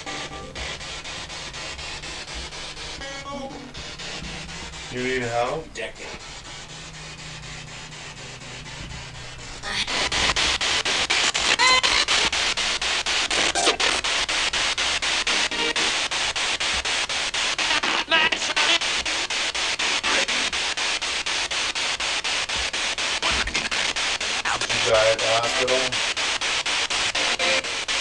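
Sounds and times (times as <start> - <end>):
snatches of radio voice: 0.0 - 12.6, 13.2 - 14.4, 15.2 - 16.1, 17.5 - 21.5, 23.0 - 26.2, 27.0 - 28.0
pulsing radio static: 0.0 - 28.0
snatches of radio music: 0.0 - 28.0.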